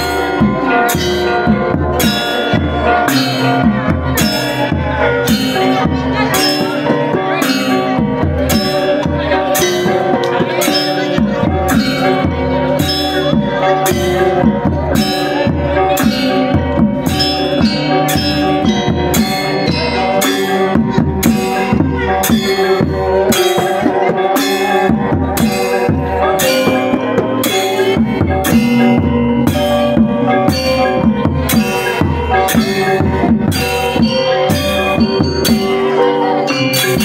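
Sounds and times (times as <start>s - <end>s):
drums struck with a stick: 0.0s - 37.0s
metallophones ringing: 0.0s - 37.0s.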